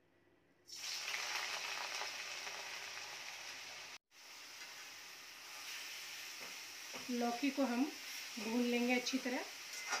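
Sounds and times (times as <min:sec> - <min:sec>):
food sizzling in hot oil: 0:00.7 - 0:10.0.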